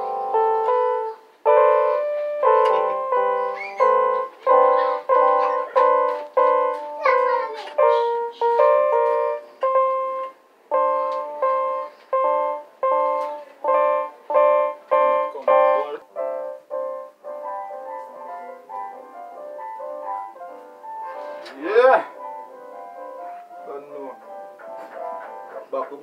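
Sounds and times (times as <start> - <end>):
electronic keyboard piano notes: 0.0 - 26.0
soft busy keyboard melody: 0.0 - 26.0.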